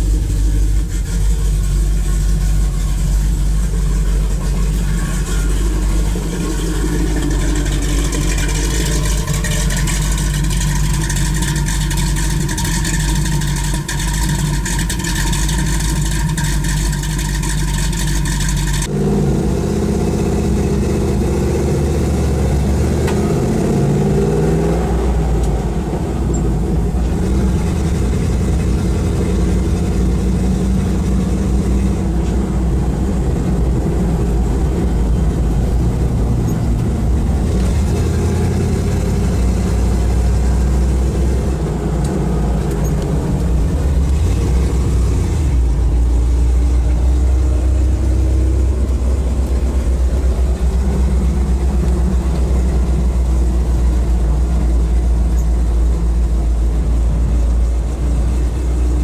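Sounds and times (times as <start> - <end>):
truck engine driving slowly: 0.0 - 59.0.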